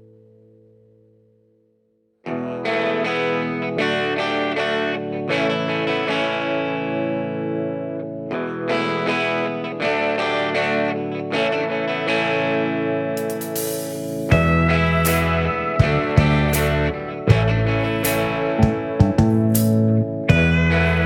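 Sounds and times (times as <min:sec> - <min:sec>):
distorted strummed guitar music: 0:02.3 - 0:21.0.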